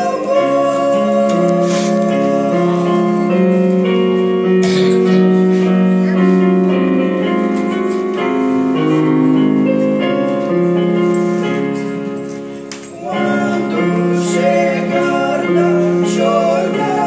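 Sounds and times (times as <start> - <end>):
electronic keyboard chords: 0.0 - 17.0.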